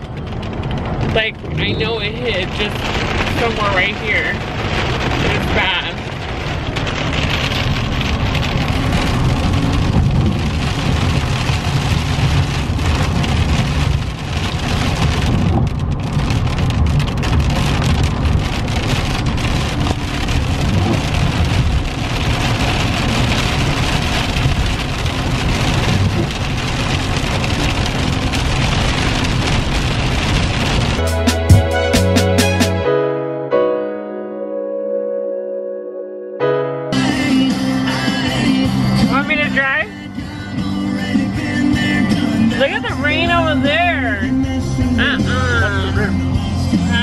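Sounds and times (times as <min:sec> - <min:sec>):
rain on car windshield: 0:00.0 - 0:32.6, 0:37.0 - 0:47.0
road rumble: 0:00.0 - 0:33.2, 0:36.5 - 0:47.0.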